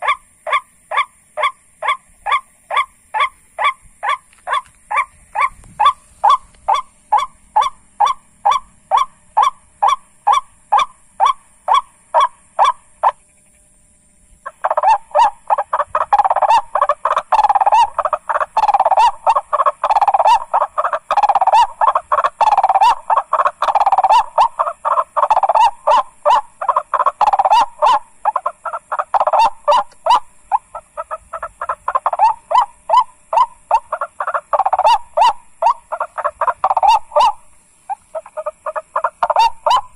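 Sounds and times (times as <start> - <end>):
faint high insect-like whine: 0.0 - 39.9
harsh repeated bird calls: 0.0 - 39.9.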